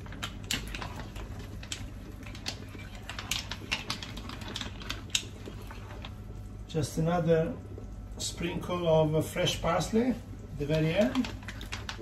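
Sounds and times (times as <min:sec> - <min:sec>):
sauce simmering: 0:00.0 - 0:12.0.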